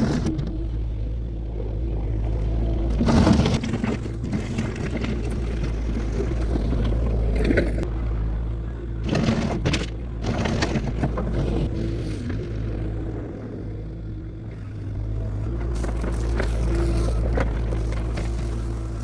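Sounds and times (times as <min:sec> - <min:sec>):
diesel engine running: 0:00.0 - 0:19.0
gravel crunching and scraping: 0:00.0 - 0:19.0.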